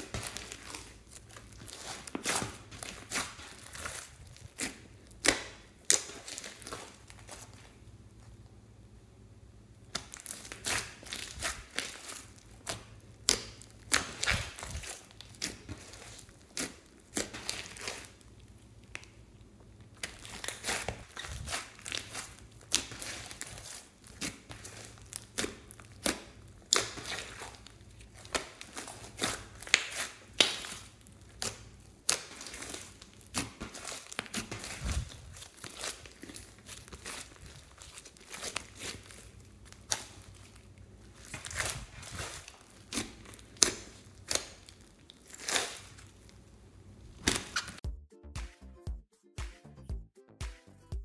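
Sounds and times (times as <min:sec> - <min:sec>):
slime crackling and squelching: 0:00.0 - 0:08.5, 0:09.8 - 0:47.8.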